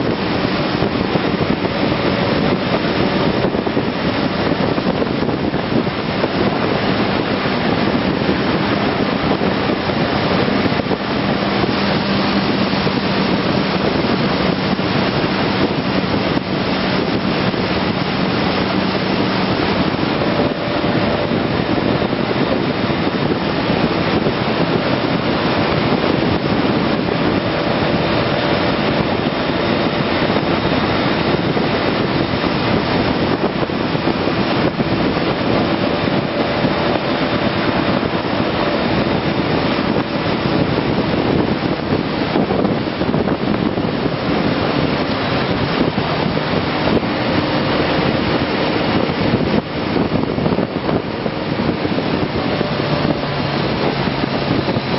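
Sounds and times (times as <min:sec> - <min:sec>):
motorcycle engine humming: 0:00.0 - 0:54.9
wind rushing over microphone: 0:00.0 - 0:54.9.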